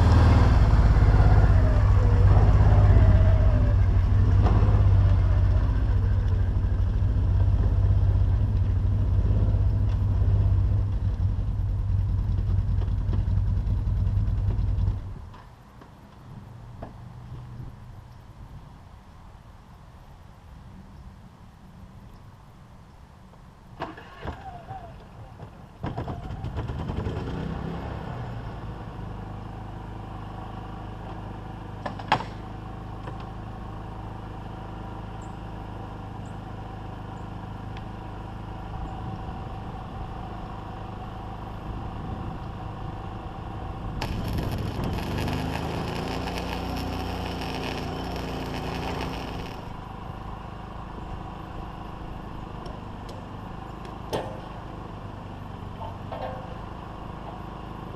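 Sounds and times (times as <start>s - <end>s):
engine running: 0.0s - 15.4s, 26.2s - 57.9s.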